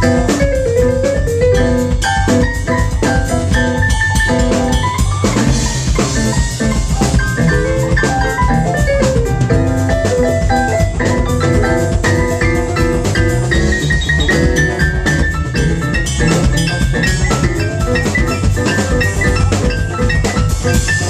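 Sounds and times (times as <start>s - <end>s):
bass: 0.0s - 21.0s
drums: 0.0s - 21.0s
electric keyboard solo: 0.0s - 21.0s.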